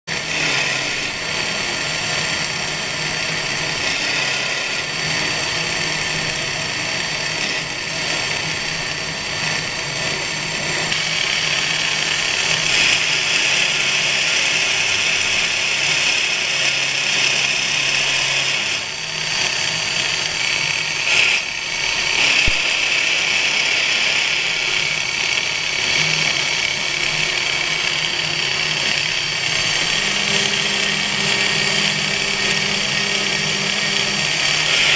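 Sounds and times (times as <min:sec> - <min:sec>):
milling machine whine and hiss: 0:00.1 - 0:34.9.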